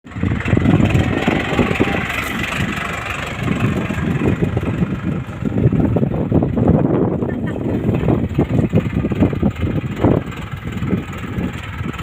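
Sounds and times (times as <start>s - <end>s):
motor running with rough rumble: 0.1s - 12.0s.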